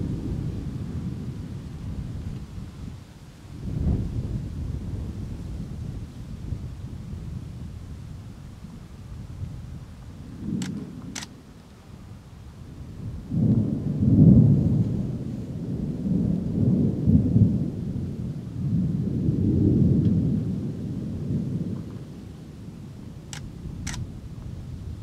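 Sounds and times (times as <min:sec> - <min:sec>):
rolling thunder: 0:00.0 - 0:11.4, 0:12.6 - 0:25.0.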